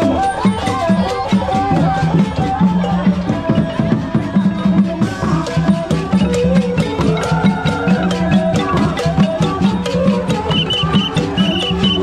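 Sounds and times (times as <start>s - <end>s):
pitched melody line: 0.0s - 12.0s
steady drumbeat: 0.0s - 12.0s.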